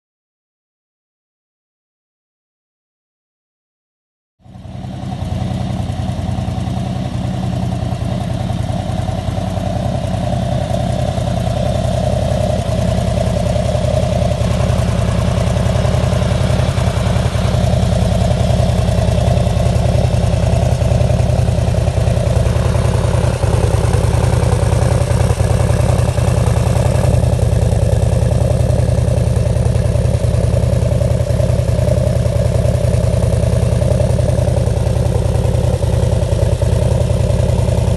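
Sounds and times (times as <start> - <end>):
motorcycle engine idling: 4.4 - 37.9.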